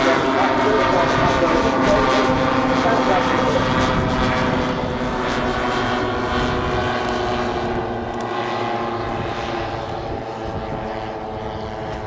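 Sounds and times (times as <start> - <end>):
model airplane engines flying past: 0.0 - 12.0.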